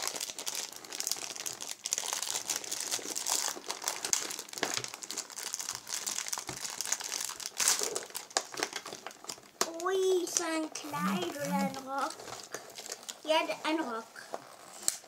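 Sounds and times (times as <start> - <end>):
wrappers crinkling: 0.0 - 15.0.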